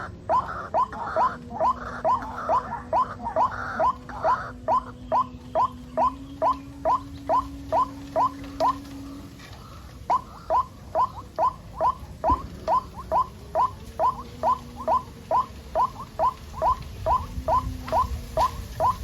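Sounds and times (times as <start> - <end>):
bird chicks peeping: 0.0 - 19.0.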